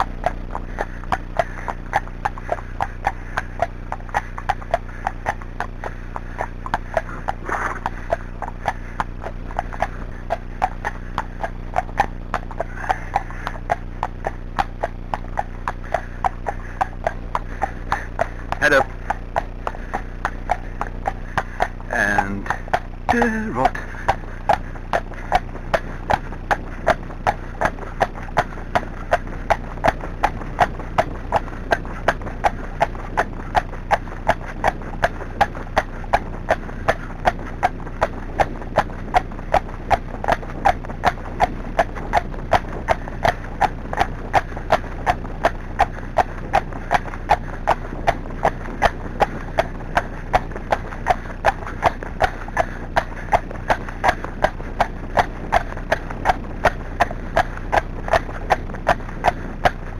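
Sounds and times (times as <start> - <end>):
hooves clip-clopping on tarmac: 0.0 - 59.9.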